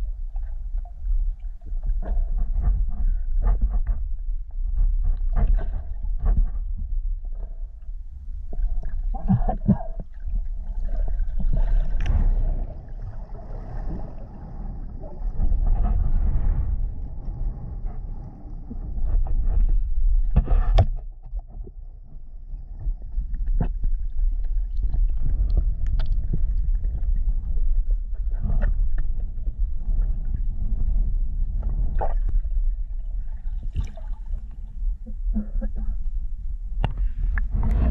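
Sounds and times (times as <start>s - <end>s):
underwater water rumble: 0.0s - 37.9s.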